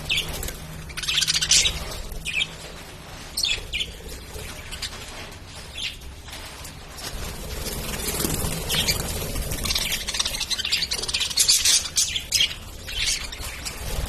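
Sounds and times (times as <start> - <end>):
lovebirds chirping: 0.0 - 6.4, 8.0 - 14.0.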